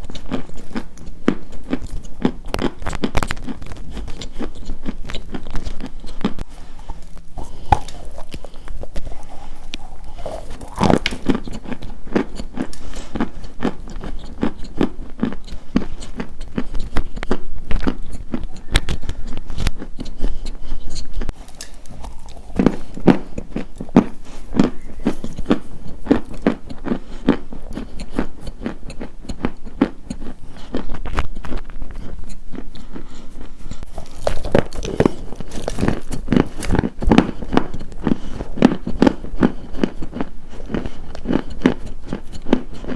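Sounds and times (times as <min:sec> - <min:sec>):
crisp crunching: 0:00.0 - 0:20.1, 0:20.9 - 0:28.3, 0:30.2 - 0:42.9.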